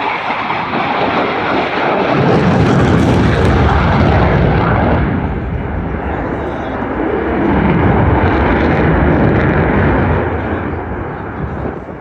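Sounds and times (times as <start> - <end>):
jet passing overhead rumble: 0.0 - 12.0.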